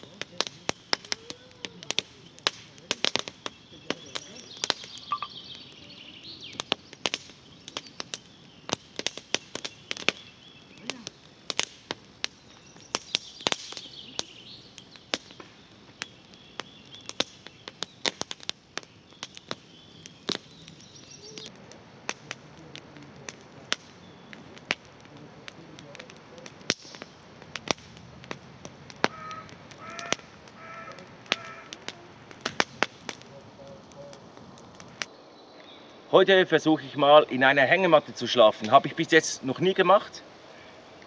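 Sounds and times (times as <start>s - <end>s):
small birds chirping: 0.0s - 41.0s
wood fire crackling: 0.0s - 41.0s.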